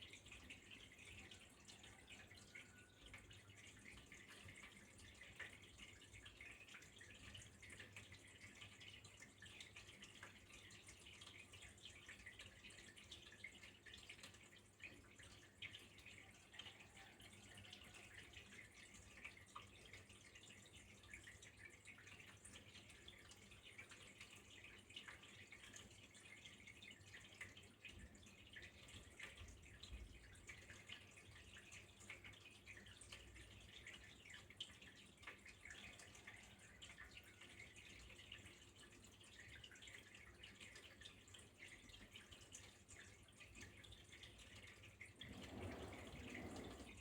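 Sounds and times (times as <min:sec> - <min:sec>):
water trickling and dripping: 0:00.0 - 0:47.0.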